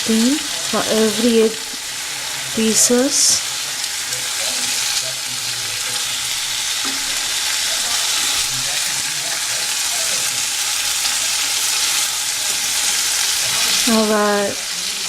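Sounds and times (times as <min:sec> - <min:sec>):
oil sizzling in a pan: 0:00.0 - 0:15.0.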